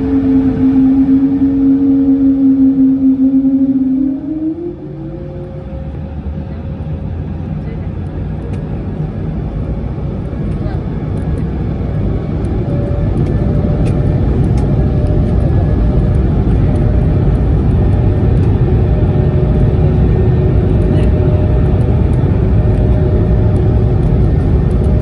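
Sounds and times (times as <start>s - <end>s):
deep engine rumble in cabin: 0.0s - 25.0s
faint engine tones: 0.0s - 25.0s.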